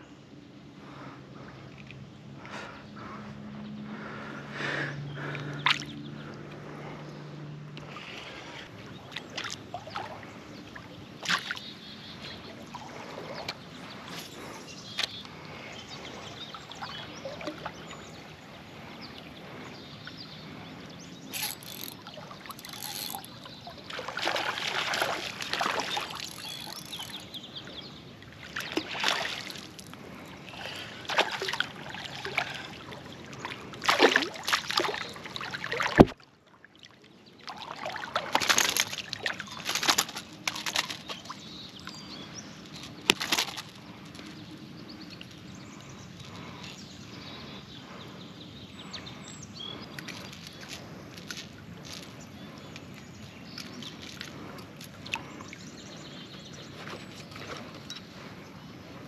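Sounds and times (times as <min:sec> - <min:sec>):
river water splashing: 0:02.3 - 0:47.3, 0:49.8 - 0:59.0.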